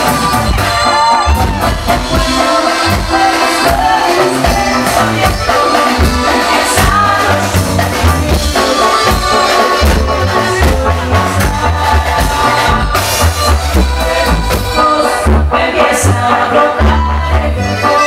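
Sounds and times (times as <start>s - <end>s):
drum kit: 0.0s - 18.0s
heavy bass line: 0.0s - 18.0s
keyboards: 0.0s - 18.0s
person singing: 0.0s - 18.0s.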